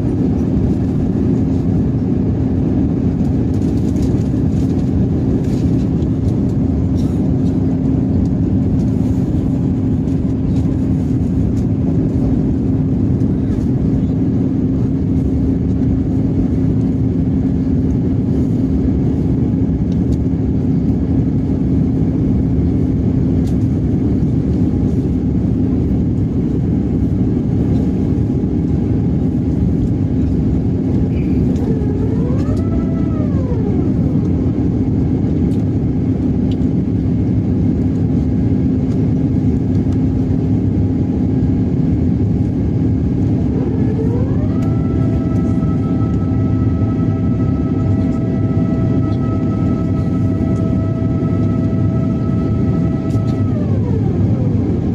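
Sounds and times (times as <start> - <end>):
constant low hum: 0.0 - 54.9
engine and air rush: 0.0 - 54.9.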